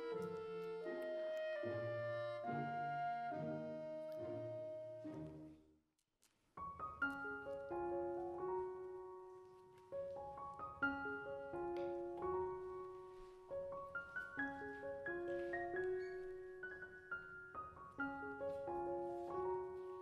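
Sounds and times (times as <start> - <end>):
gentle piano piece: 0.0 - 5.6, 6.6 - 20.0.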